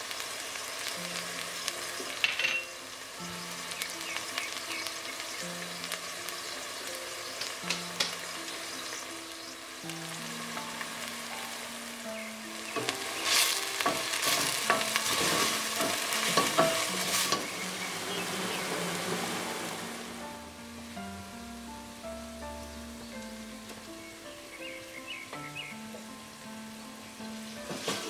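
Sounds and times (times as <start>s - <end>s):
sauce sizzling in a pot: 0.0s - 28.0s.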